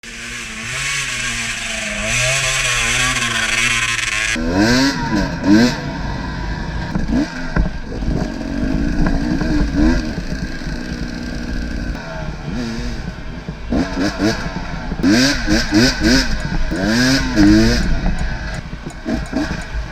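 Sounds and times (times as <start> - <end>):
motorcycle engine running steadily: 0.0 - 19.9
motorcycle engines revving: 0.0 - 19.9.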